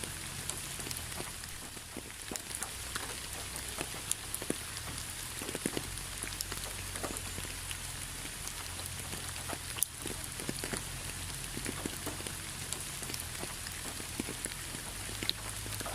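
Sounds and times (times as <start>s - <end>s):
drops ticking on a surface: 0.0s - 15.9s
rain falling steadily: 0.0s - 15.9s.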